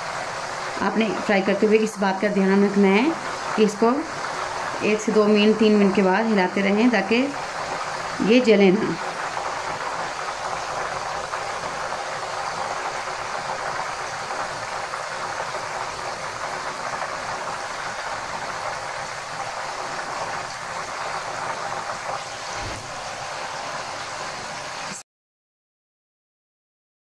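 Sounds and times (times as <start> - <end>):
oil sizzling and bubbling: 0.0 - 25.0.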